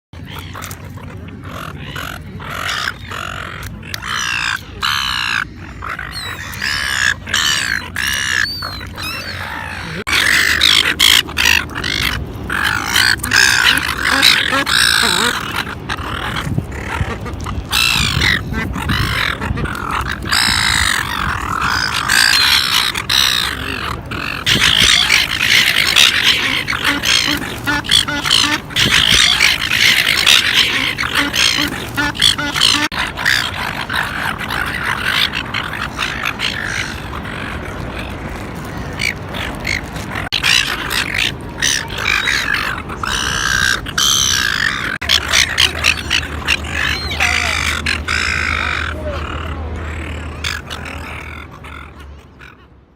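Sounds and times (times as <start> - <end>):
flock of small birds chirping: 0.2 - 52.7.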